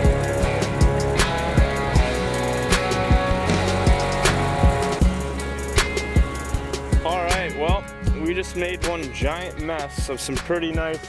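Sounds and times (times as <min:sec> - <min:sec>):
drum beat with kick drum: 0:00.0 - 0:11.0
guitar: 0:00.0 - 0:11.0.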